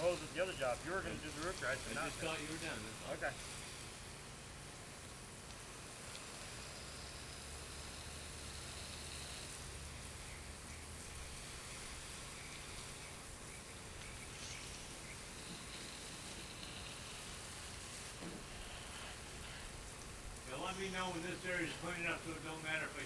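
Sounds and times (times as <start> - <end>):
water spray hissing and pattering: 0.0 - 23.0.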